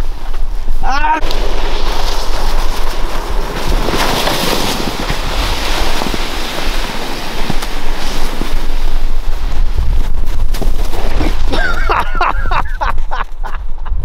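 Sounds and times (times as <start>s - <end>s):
plastic sled scraping on snow: 0.0s - 13.7s
wind buffeting microphone: 0.0s - 14.0s.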